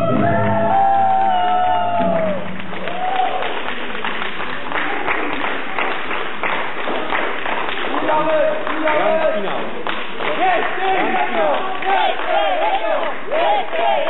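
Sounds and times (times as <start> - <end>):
audience clapping: 0.7 - 14.0.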